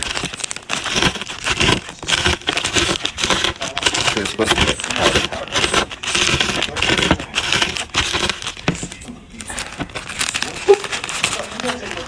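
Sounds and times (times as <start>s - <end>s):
chips crunching: 0.0s - 12.0s
plastic packet crinkling: 0.0s - 12.0s.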